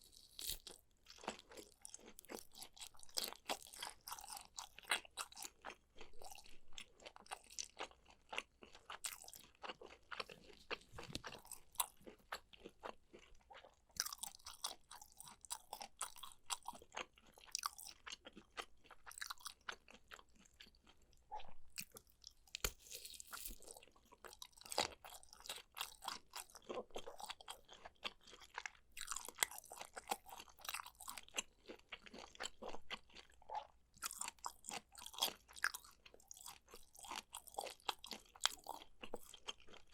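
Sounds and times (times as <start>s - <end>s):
wet chewing crunches: 0.0s - 39.9s.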